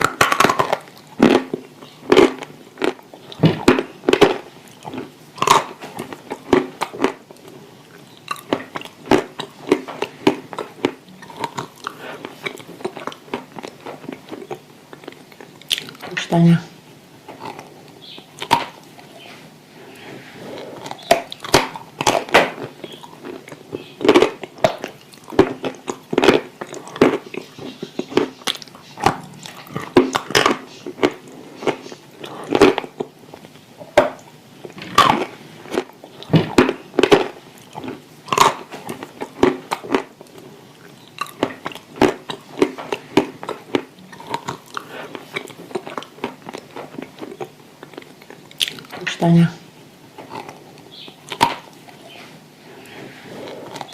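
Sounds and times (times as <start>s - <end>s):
dry clay being chewed: 0.0s - 16.2s, 17.3s - 49.1s, 50.2s - 53.9s.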